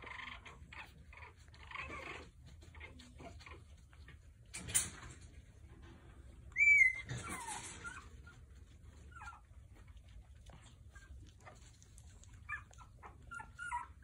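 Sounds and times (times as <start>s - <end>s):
puppy squealing and whining: 0.0s - 4.0s, 6.4s - 14.0s
rustling: 0.0s - 14.0s.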